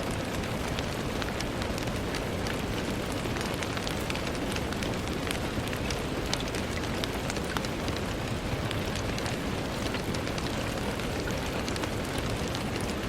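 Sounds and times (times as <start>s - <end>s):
rain on a window: 0.0s - 13.0s.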